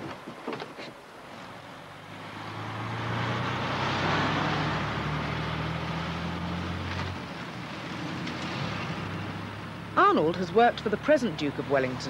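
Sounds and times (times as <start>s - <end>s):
lorry driving past: 1.6s - 12.0s.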